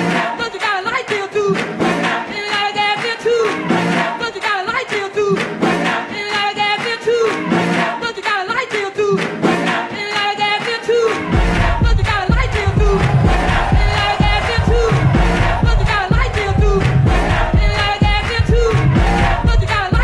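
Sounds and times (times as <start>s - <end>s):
electronic dance music: 0.0s - 20.0s
looped choir-like vocal: 0.0s - 20.0s.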